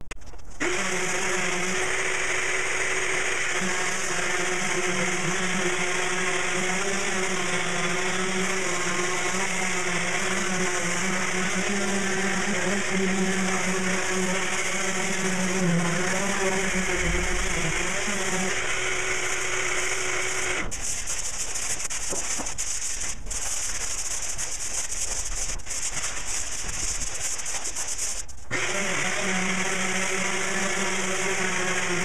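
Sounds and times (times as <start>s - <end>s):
sanding scratching a hard surface: 0.6s - 32.0s.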